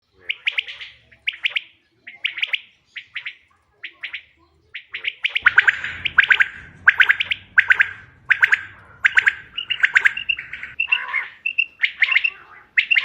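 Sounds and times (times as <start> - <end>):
quail calling whistled notes: 0.2 - 13.0.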